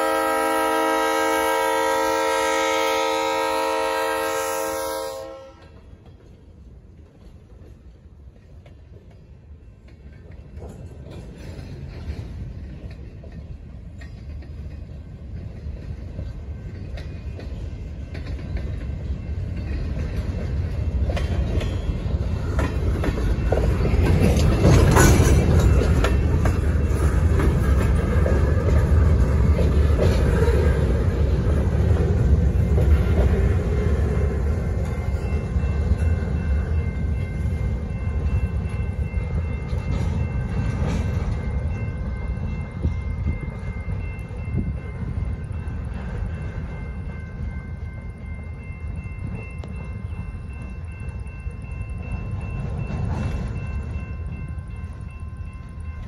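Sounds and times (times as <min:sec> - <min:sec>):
freight train rolling past: 0:00.0 - 0:56.0
wheels clacking over rail joints: 0:05.6 - 0:56.0.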